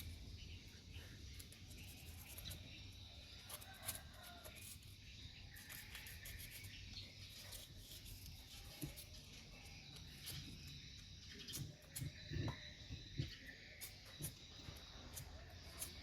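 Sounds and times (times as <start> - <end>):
faint bird chirps: 0.0 - 16.0
steady high insect-like tone: 0.0 - 16.0.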